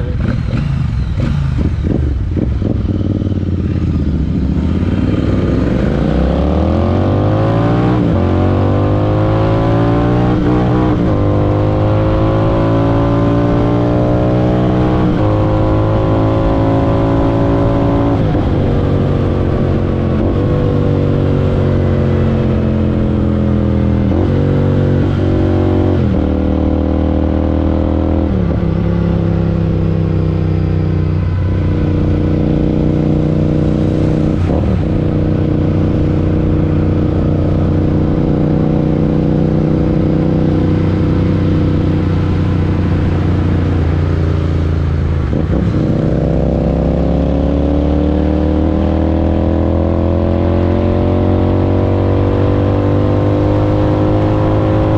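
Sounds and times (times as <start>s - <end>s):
motorcycle engine with gear changes: 0.0s - 54.9s.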